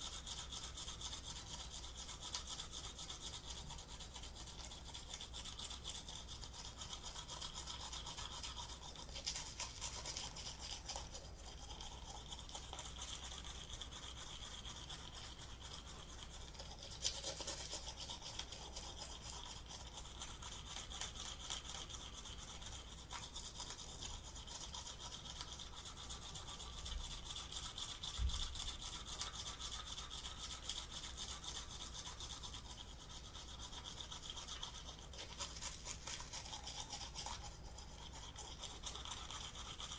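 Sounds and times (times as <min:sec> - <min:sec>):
toothbrush scrubbing teeth: 0:00.0 - 0:39.9.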